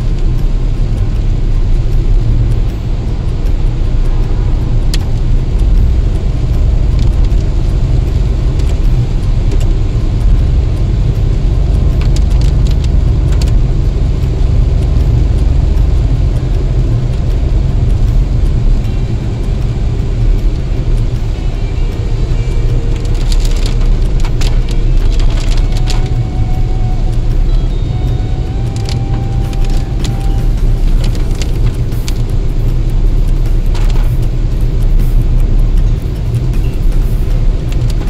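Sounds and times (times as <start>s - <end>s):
car engine and tyres rumbling: 0.0s - 38.0s
faint ticks: 0.0s - 38.0s.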